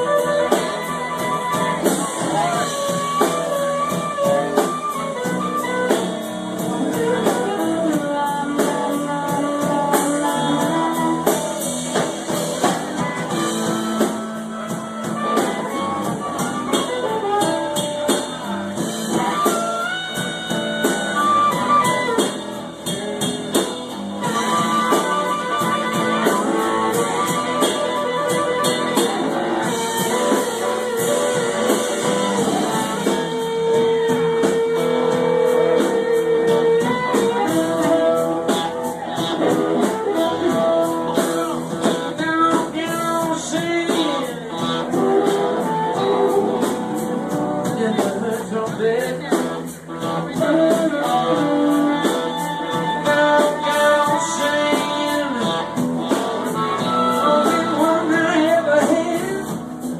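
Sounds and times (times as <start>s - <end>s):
blues band backing: 0.0s - 59.9s
blues electric guitar bending notes: 0.0s - 59.9s.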